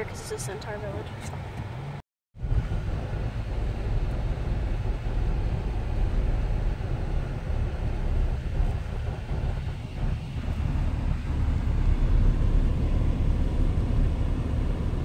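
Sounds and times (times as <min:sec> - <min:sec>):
engine and tyre rumble: 0:00.0 - 0:15.0
road noise: 0:00.0 - 0:15.0.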